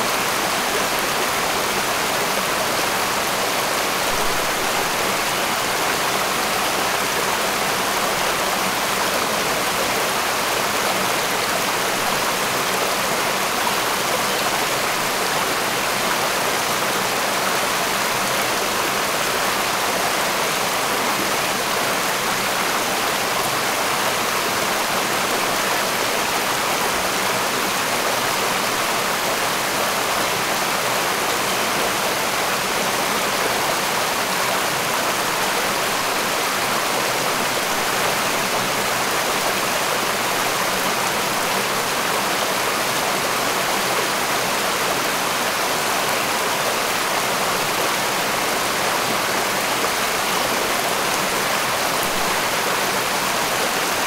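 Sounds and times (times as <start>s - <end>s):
stream rushing over stones: 0.0s - 54.0s.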